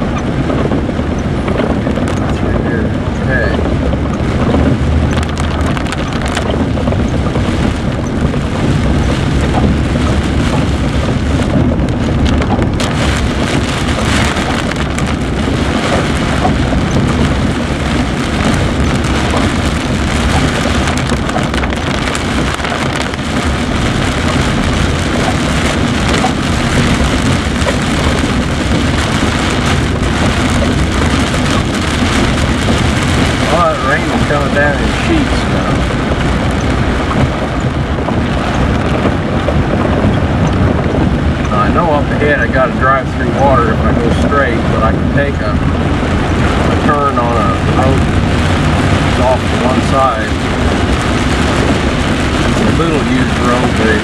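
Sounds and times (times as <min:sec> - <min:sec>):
engine and tyre rumble: 0:00.0 - 0:54.0
rain spattering: 0:00.0 - 0:54.0
water and gravel from wheels: 0:00.0 - 0:54.0.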